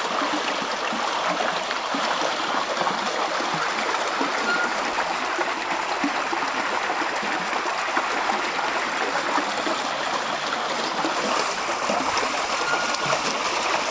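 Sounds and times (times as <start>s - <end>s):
paddle wheel splashing: 0.0s - 13.9s
stream rushing: 0.0s - 13.9s.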